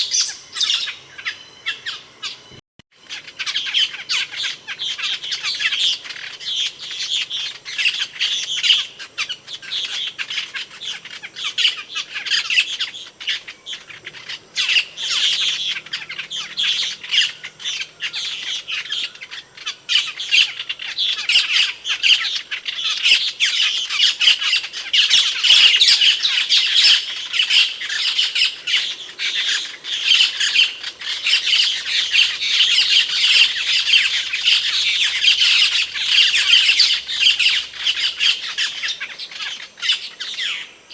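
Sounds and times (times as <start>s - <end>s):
bird high squeaky calls: 0.0s - 40.9s.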